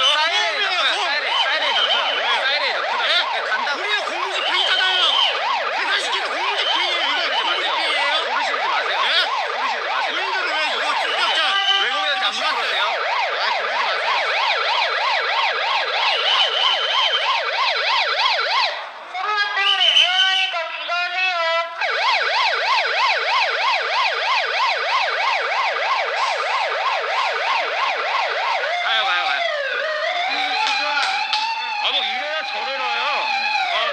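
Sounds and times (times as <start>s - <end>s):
warbling siren tones: 0.0s - 18.8s, 21.8s - 33.9s
police siren yelping: 0.0s - 33.9s.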